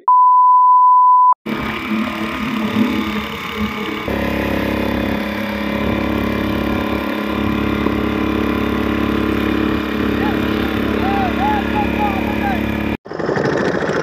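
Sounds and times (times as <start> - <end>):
outboard motor running: 1.5 - 14.0.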